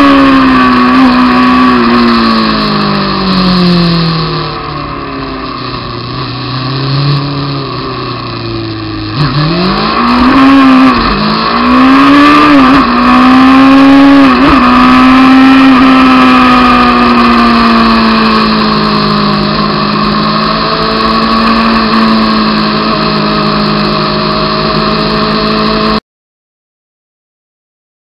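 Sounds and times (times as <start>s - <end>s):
motorcycle engine at high revs: 0.0s - 26.0s.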